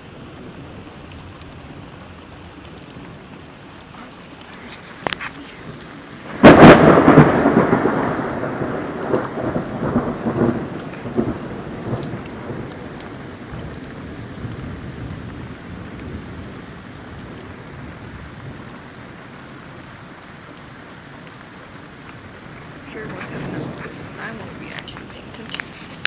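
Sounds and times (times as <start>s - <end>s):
thunderclap with rumble: 0.0s - 19.8s, 22.2s - 26.0s
steady rain: 0.0s - 26.0s.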